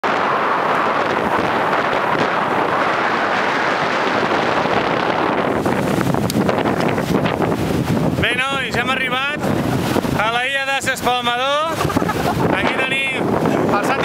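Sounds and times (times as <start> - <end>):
waves washing onto shore: 0.0 - 14.0
wind on microphone: 0.0 - 14.0.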